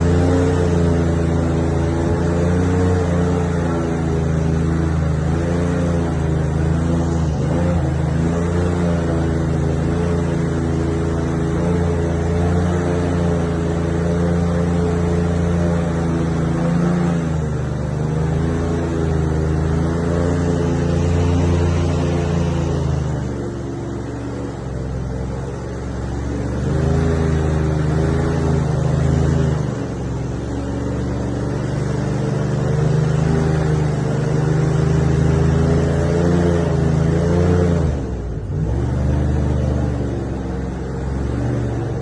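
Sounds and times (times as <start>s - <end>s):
motor engine running: 0.0s - 42.0s.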